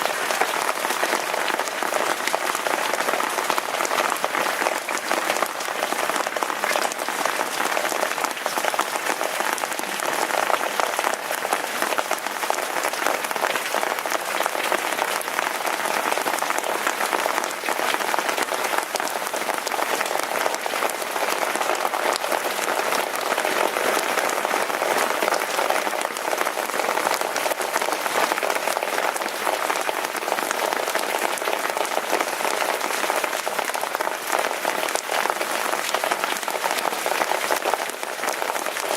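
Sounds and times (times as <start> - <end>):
dense rainfall: 0.0 - 38.9.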